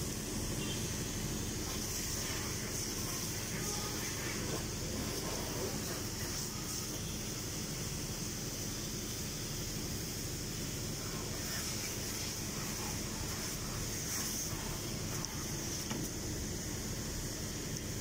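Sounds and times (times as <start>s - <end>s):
faint steady hum: 0.0s - 18.0s
hose water spraying on car: 0.0s - 18.0s.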